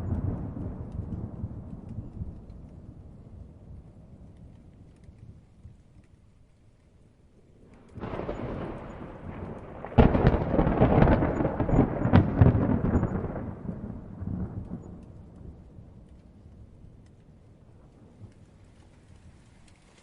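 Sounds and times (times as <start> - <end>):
thunder rumbling and crackling: 0.0 - 20.0.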